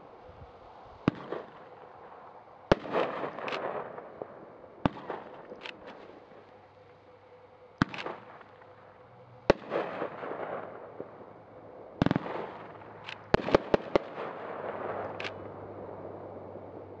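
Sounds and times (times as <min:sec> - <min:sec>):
crackling hiss of fireworks: 0:00.0 - 0:17.0.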